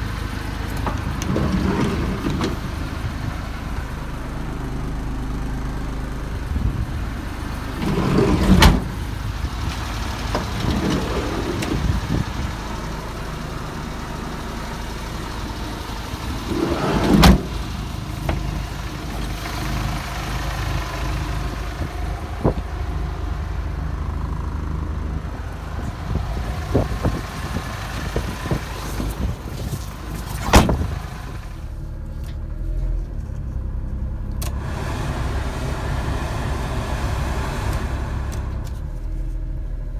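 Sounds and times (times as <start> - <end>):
van engine idling: 0.0 - 39.9.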